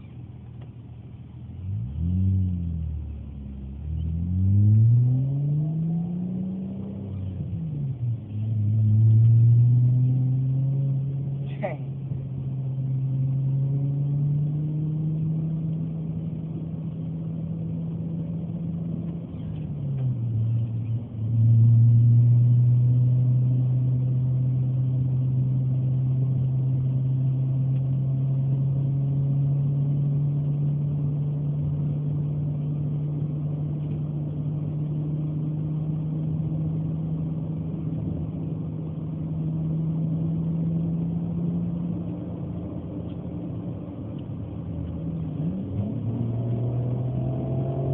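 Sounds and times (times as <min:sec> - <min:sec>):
car engine exhaust drone: 0:00.0 - 0:47.9.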